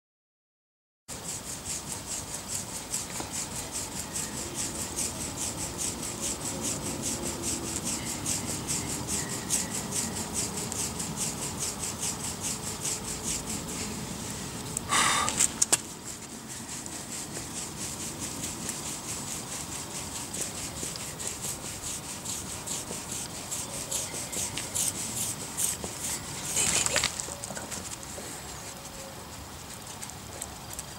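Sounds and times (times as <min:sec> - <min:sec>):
hands rubbing cat fur: 0:01.2 - 0:30.9.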